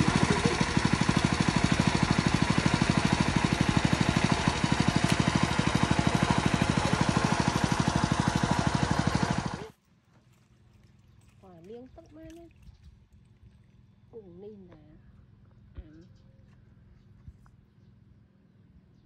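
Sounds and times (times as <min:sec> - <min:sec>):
engine-driven water pump chugging: 0:00.0 - 0:18.1.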